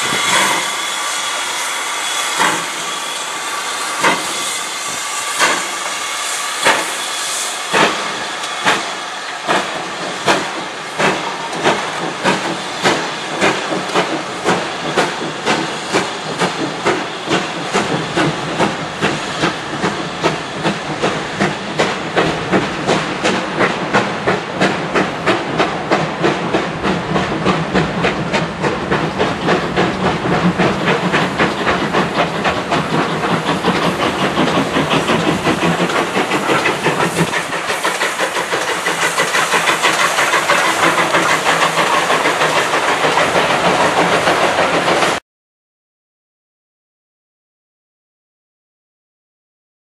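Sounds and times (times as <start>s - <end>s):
hiss of steam: 0.0s - 45.2s
steam train chuffing beats: 0.0s - 45.2s.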